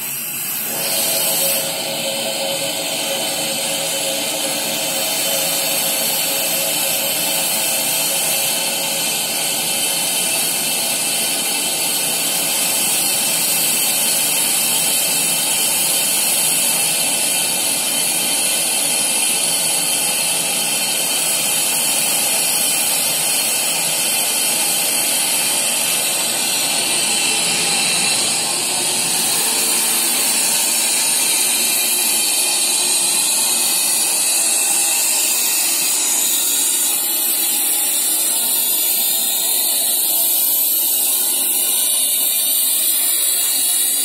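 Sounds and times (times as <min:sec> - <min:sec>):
steam hissing from locomotive: 0:00.0 - 0:44.0.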